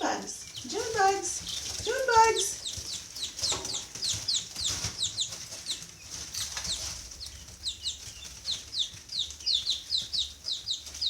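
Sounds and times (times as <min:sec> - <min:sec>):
young poultry peeping: 0:00.0 - 0:11.0.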